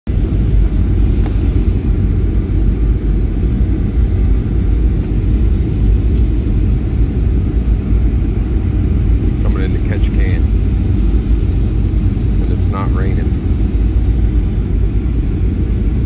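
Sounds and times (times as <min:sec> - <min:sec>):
airplane cabin engine rumble: 0:00.1 - 0:16.0.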